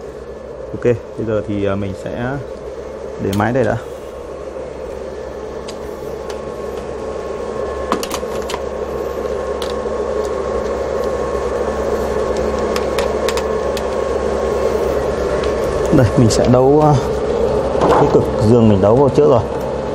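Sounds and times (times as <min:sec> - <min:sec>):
electrical equipment and fans humming: 0:00.0 - 0:19.9
faint steady whine: 0:00.0 - 0:19.9.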